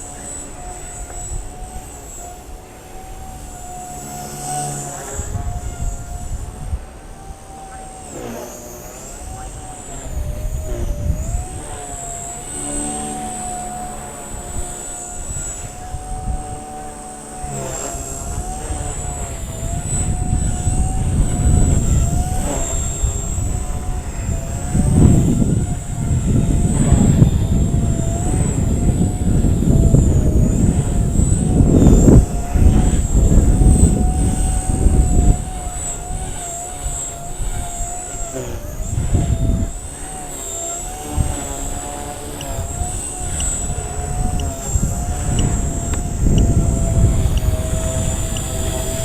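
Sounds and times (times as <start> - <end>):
toy helicopter rotor whine: 0.0 - 49.0
wind buffeting microphone: 0.0 - 49.0.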